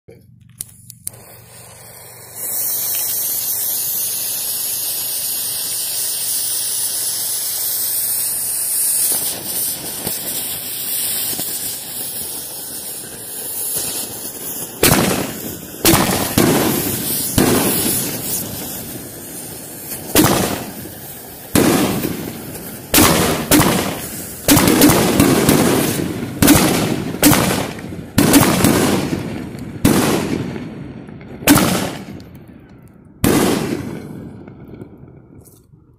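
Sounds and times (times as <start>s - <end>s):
firework shells exploding: 0.5s - 35.9s
firework fuse hiss: 0.6s - 30.5s.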